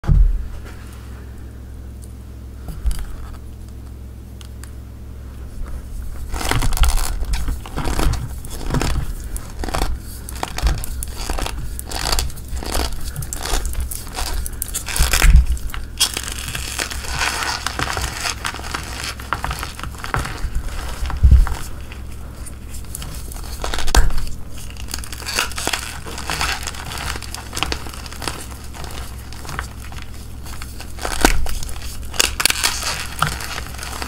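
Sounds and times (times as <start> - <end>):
crumbly powder rustle: 0.4 - 34.0
hands crushing chalk block: 6.2 - 34.0.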